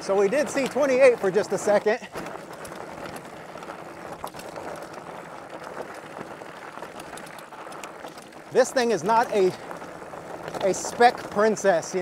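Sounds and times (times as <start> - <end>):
bike tyres crunching on gravel: 0.0 - 12.0
small clicks: 0.3 - 12.0.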